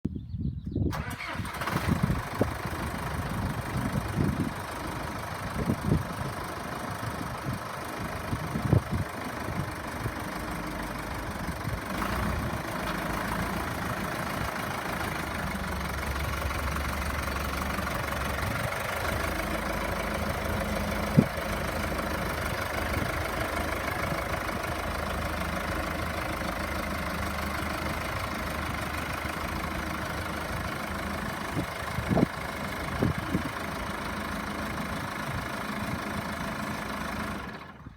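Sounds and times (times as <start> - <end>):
tractor engine running: 0.9 - 37.9.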